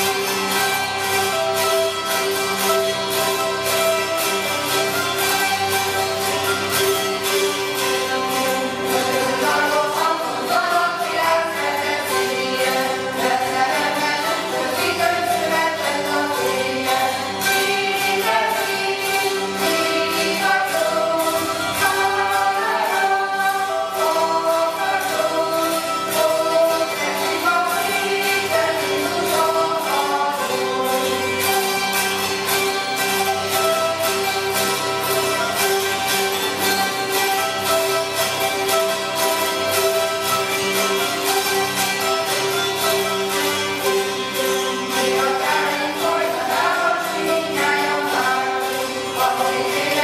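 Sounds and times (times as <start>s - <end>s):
zithers playing a melody: 0.0s - 50.0s.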